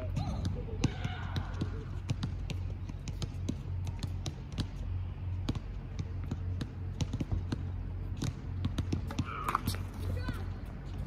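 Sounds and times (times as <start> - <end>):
tennis balls bouncing: 0.0 - 11.0.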